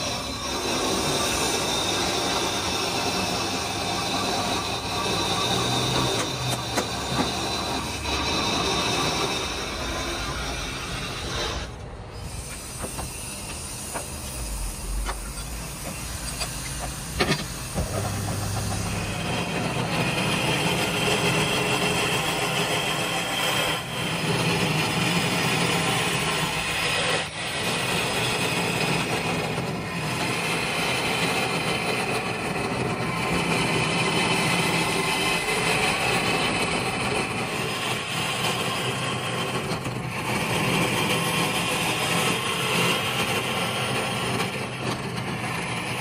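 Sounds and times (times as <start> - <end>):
lathe tool grinding stone: 0.0 - 46.0.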